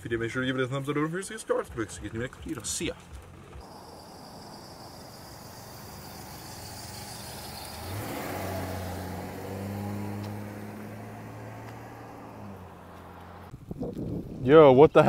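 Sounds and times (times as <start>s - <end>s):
pickup engine hum: 0.0s - 13.8s
tyre and road noise: 0.0s - 14.7s.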